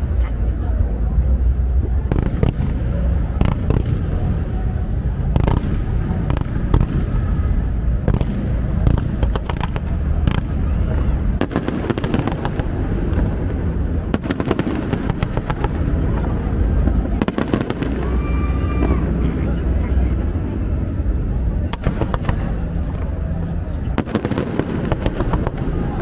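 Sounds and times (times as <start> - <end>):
deep rumble of booms: 0.0 - 26.0
fireworks bursting and crackling: 1.4 - 19.2, 21.7 - 26.0.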